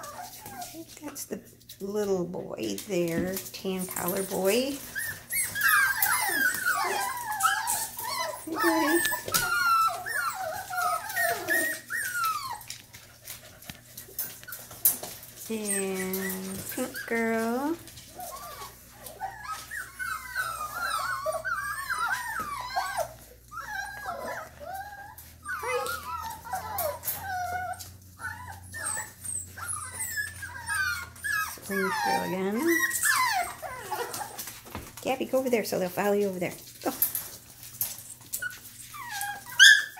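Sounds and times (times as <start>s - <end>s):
puppies whining and squealing: 0.0s - 1.0s, 2.7s - 39.9s.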